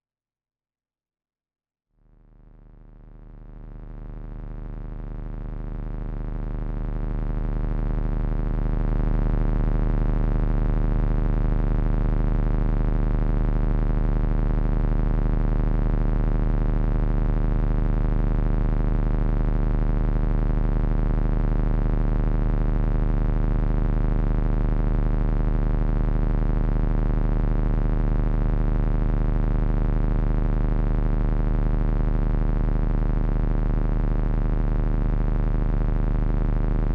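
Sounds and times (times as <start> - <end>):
electronic drone with low hum: 2.1 - 36.9.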